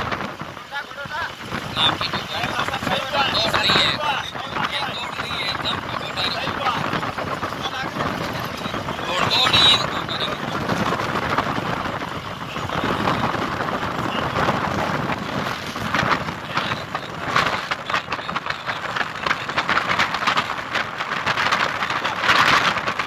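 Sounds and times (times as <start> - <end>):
vehicle driving over rough ground: 0.0 - 23.0.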